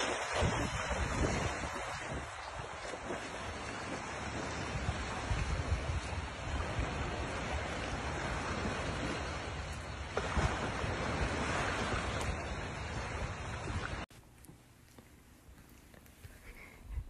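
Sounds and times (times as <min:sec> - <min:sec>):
wind rumbling on microphone: 0:00.0 - 0:14.0
small waves washing on beach: 0:00.0 - 0:14.1.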